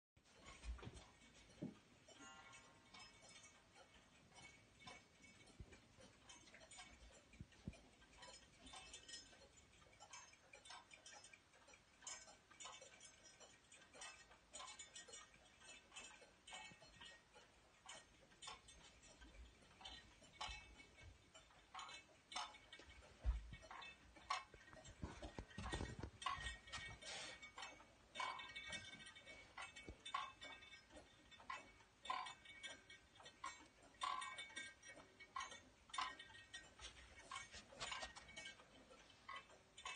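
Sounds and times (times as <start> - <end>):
clock ticking: 0.2 - 39.9.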